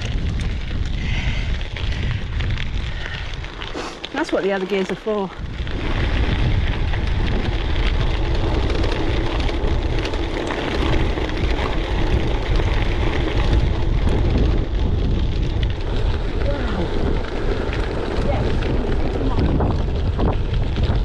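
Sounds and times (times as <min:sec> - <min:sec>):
bike tyres crunching on gravel: 0:00.0 - 0:21.0
wind buffeting microphone: 0:00.0 - 0:21.0.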